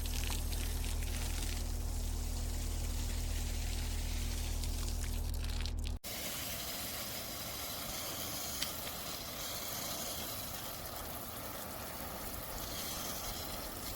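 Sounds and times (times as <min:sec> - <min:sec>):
water spraying from shower head: 0:00.0 - 0:13.9.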